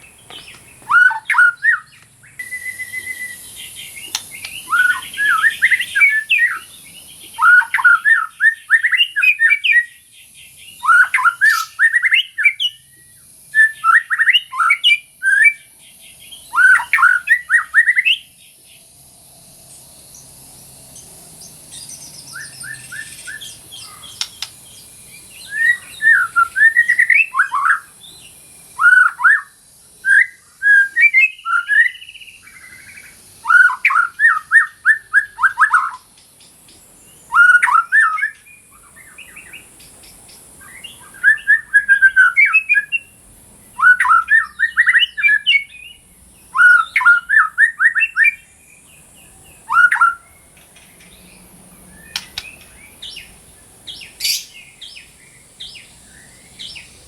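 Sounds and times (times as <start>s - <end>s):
songbird whistling phrases: 0.0s - 18.4s, 21.7s - 36.1s, 37.2s - 39.7s, 40.6s - 48.5s, 49.2s - 50.5s, 51.8s - 57.0s.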